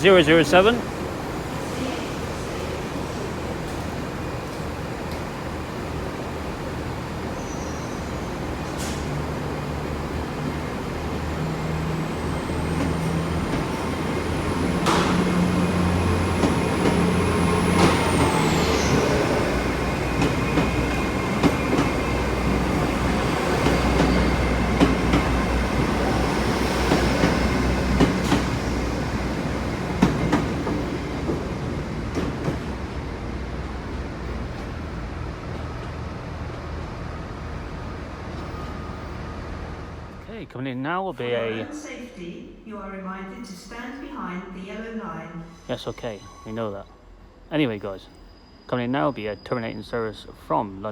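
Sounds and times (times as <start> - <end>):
train diesel engines: 0.0 - 50.9.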